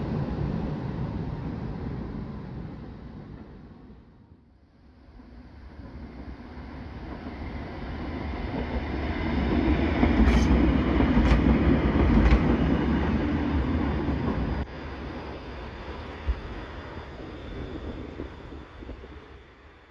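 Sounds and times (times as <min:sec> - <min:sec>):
tram rumbling past: 0:00.0 - 0:19.9.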